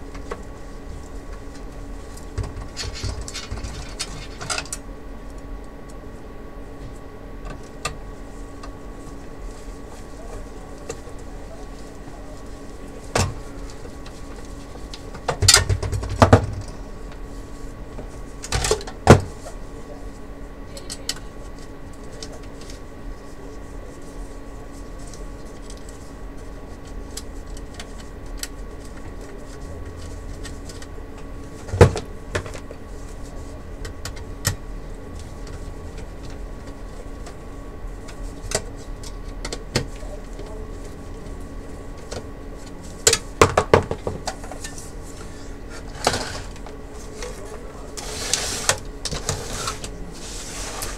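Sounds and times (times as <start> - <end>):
faint hum: 0.0 - 50.9.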